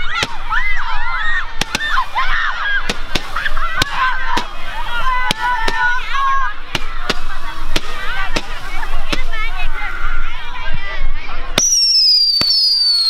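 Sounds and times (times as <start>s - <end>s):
firework launch bangs: 0.0s - 0.6s, 1.6s - 10.1s, 11.5s - 13.0s.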